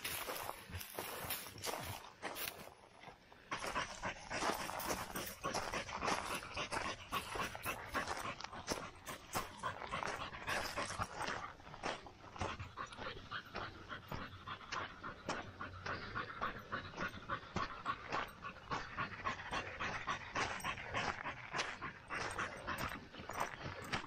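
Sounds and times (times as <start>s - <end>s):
heavy panting breaths: 0.0s - 24.0s
running footsteps on dirt trail: 0.0s - 24.0s.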